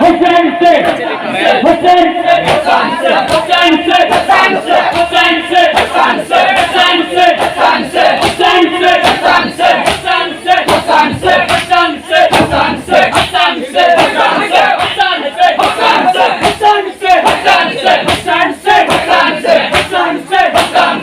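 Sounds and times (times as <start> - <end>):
crowd of men chanting: 0.0 - 21.0.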